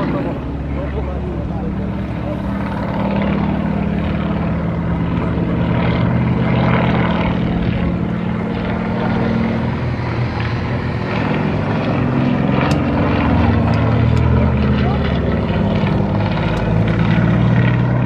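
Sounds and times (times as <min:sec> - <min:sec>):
small plane engine droning: 0:00.0 - 0:18.0.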